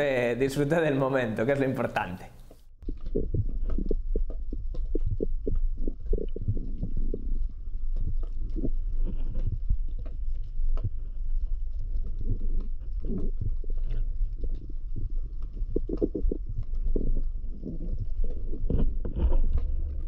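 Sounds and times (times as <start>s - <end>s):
muffled underwater water rumble: 2.8s - 20.0s.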